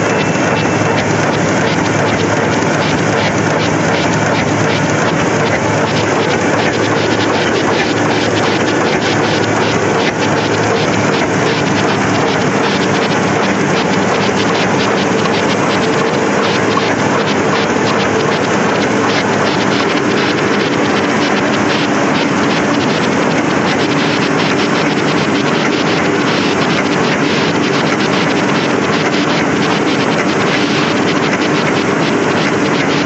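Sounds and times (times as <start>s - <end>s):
printing press mechanical din: 0.0s - 33.0s.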